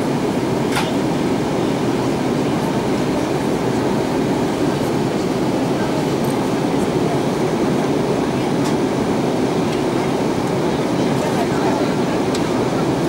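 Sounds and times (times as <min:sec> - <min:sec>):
jet engine drone: 0:00.0 - 0:13.0.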